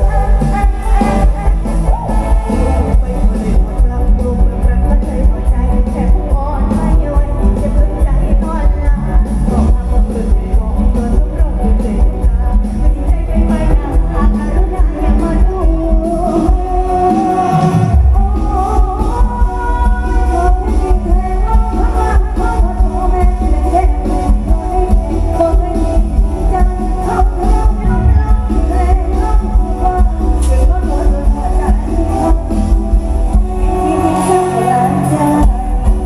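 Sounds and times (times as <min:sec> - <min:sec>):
loud bass beat: 0:00.0 - 0:34.1
live band music: 0:00.0 - 0:36.0
person singing: 0:00.0 - 0:36.0.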